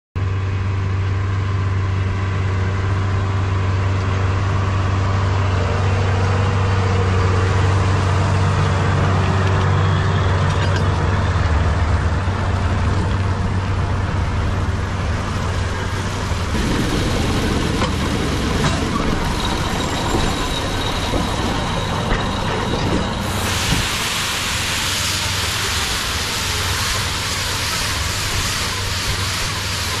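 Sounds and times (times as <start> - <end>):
tractor engine hum: 0.2 - 30.0
rough machinery noise: 1.6 - 30.0.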